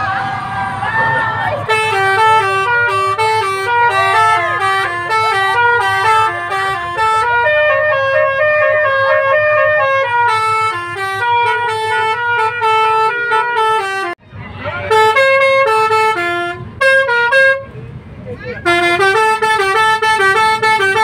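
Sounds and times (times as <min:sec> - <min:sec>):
multi-tone bus horn melody: 0:01.1 - 0:21.0.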